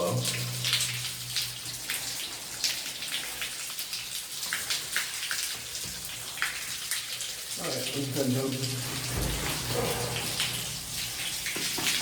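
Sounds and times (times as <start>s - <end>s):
running water: 0.0s - 12.0s
water dripping and splashing: 0.0s - 12.0s.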